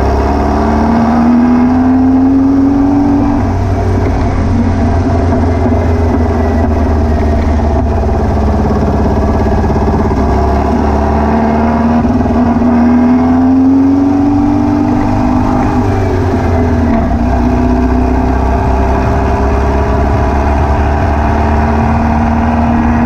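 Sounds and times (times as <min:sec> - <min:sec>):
engine running with misfire: 0:02.2 - 0:23.0.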